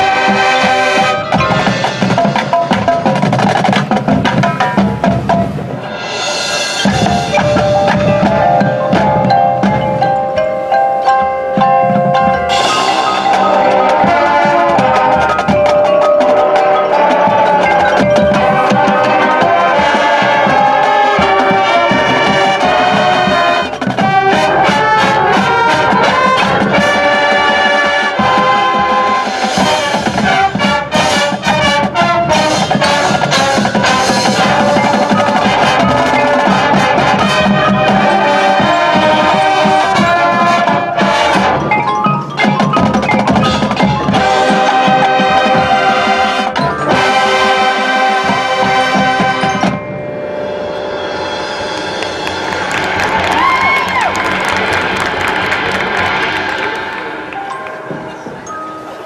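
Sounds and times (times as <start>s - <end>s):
brass horns: 0.0s - 9.8s, 11.4s - 41.9s, 42.9s - 57.5s
mallet instruments: 0.0s - 59.0s
marching percussion: 0.0s - 59.0s.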